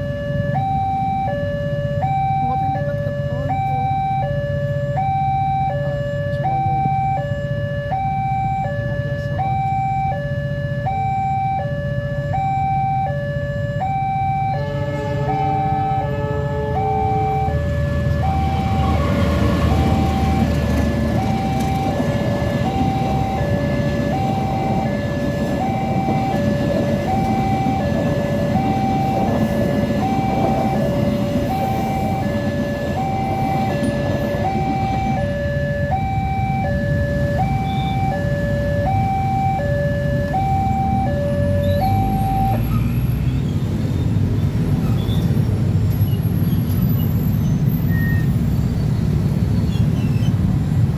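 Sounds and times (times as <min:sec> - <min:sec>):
two-tone crossing alarm: 0:00.0 - 0:43.0.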